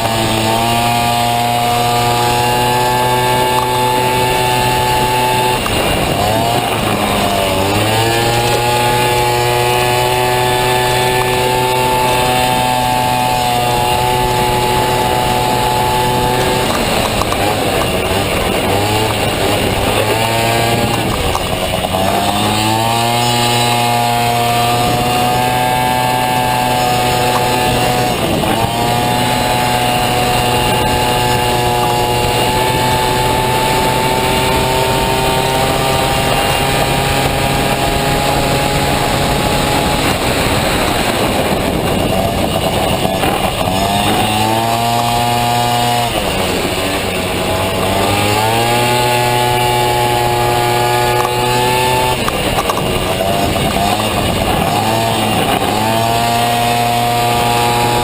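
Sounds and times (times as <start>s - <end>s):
scooter engine at high revs: 0.0s - 58.0s.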